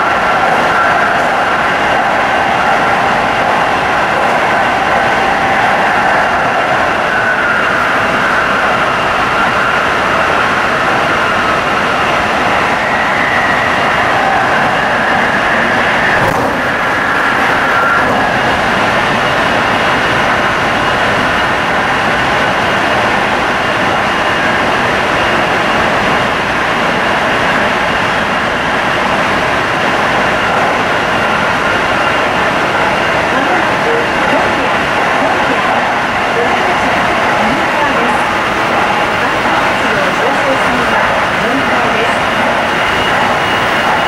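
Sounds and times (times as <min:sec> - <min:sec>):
train running noise inside car: 0:00.0 - 0:44.0.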